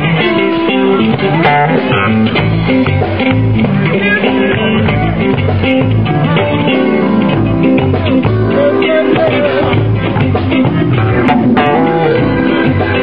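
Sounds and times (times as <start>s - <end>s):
electric guitar: 0.0s - 13.0s
live soul band playing: 0.0s - 13.0s.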